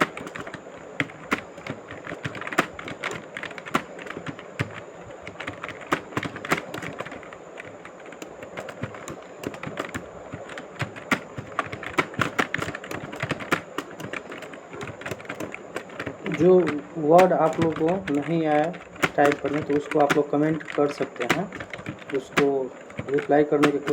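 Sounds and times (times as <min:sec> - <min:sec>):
typing taps on phone screen: 0:00.0 - 0:23.9.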